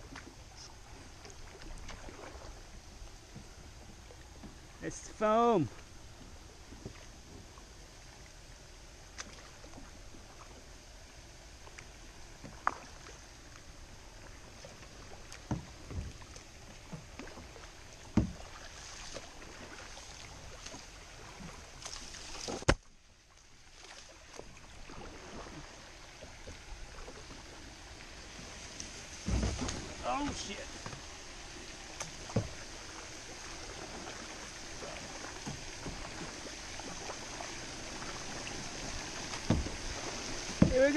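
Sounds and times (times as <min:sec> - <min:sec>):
paddle dipping and splashing: 0:00.0 - 0:40.9
water running off paddle blades: 0:00.0 - 0:40.9.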